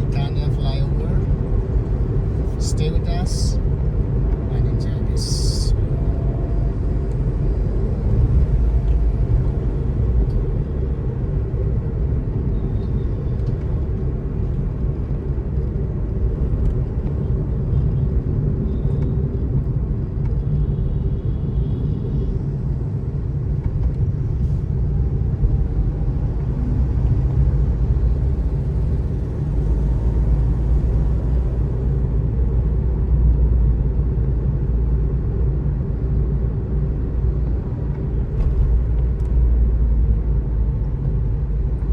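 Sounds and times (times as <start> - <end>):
vehicle driving on road: 0.0 - 41.9.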